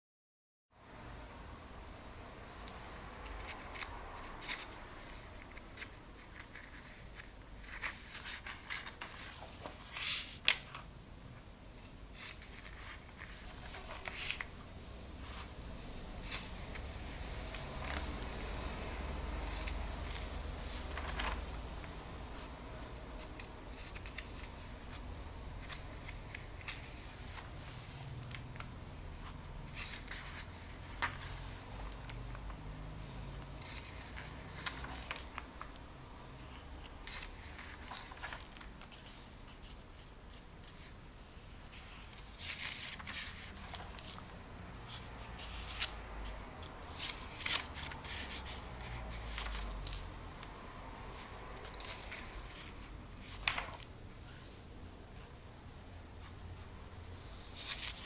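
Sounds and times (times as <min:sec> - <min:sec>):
faint low hum: 0:00.8 - 0:58.0
paper pages rustling: 0:03.2 - 0:10.9, 0:11.6 - 0:25.0, 0:25.6 - 0:35.8, 0:36.4 - 0:58.0.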